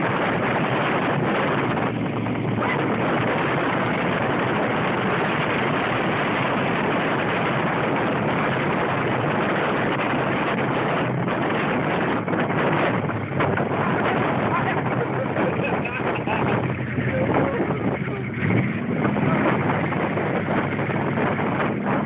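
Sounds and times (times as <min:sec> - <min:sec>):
dune buggy engine running: 0:00.0 - 0:22.0
wind rush on microphone: 0:00.0 - 0:22.0.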